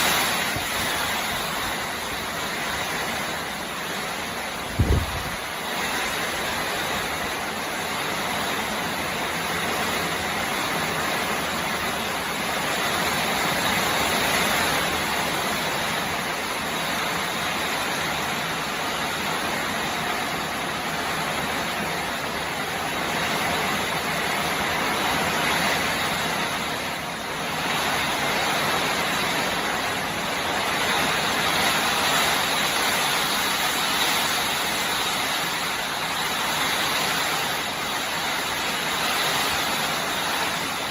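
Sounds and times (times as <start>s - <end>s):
storm rain: 0.0s - 40.9s
wind: 0.0s - 40.9s.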